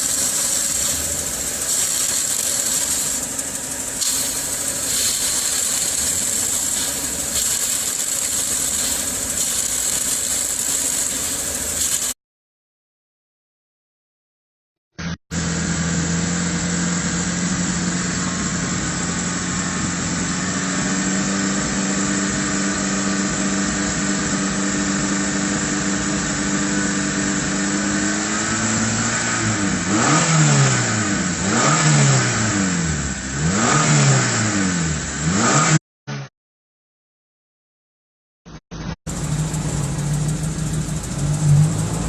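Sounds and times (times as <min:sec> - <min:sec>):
car engine idling and revving: 0:00.0 - 0:12.2, 0:15.0 - 0:36.2, 0:38.7 - 0:42.0.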